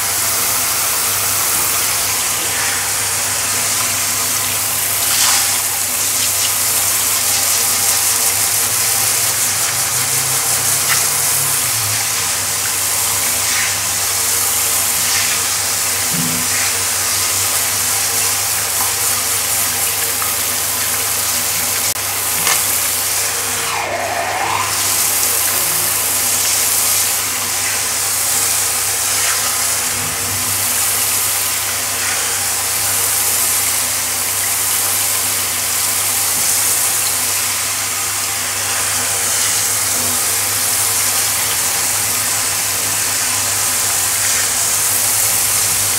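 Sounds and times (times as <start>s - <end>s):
shower spray on tiled floor: 0.0s - 23.5s, 24.7s - 45.9s.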